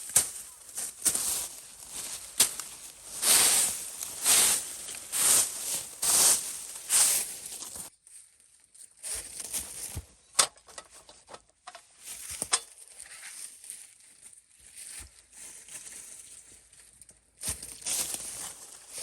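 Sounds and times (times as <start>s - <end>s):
rustling and crinkling: 0.0s - 19.0s.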